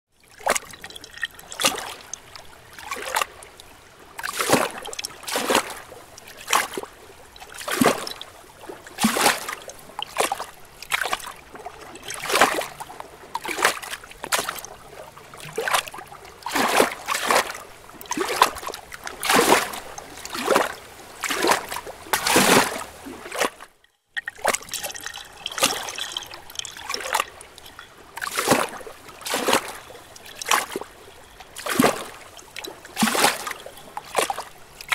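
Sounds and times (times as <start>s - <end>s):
pool water splashing: 0.3s - 34.9s.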